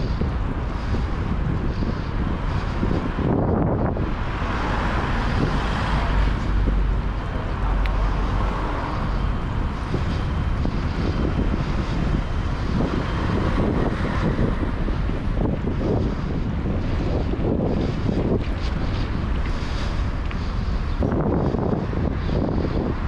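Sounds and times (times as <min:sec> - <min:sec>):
traffic and road noise: 0:00.0 - 0:23.0
wind rush on microphone: 0:00.0 - 0:23.0.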